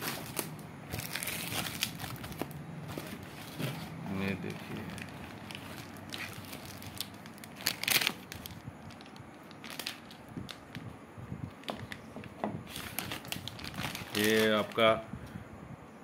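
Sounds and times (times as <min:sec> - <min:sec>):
paper pulp tray rustling: 0:00.0 - 0:10.1, 0:11.6 - 0:15.0
plastic bag crinkling: 0:00.0 - 0:10.9, 0:11.6 - 0:15.0.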